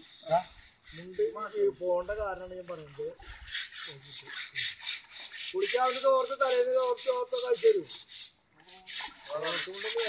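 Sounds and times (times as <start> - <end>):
hand scrubber rasping on wet hide: 0.0 - 10.0.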